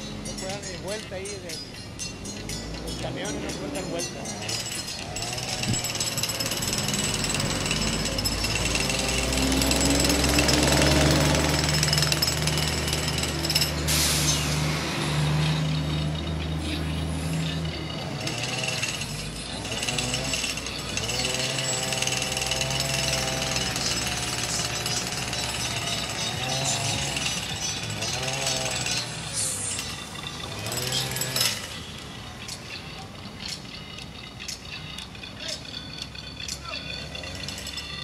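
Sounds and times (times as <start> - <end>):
heavy diesel engines: 0.0 - 38.0
jackhammer hammering: 0.0 - 38.0.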